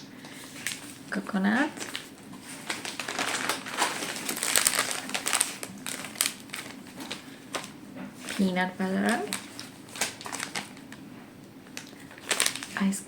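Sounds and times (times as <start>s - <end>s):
packets crinkling and rustling: 0.3s - 13.0s.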